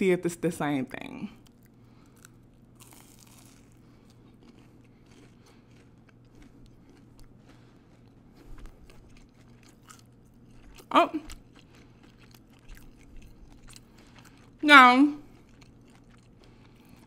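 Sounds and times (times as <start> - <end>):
crunchy food chewing: 1.4 - 17.0.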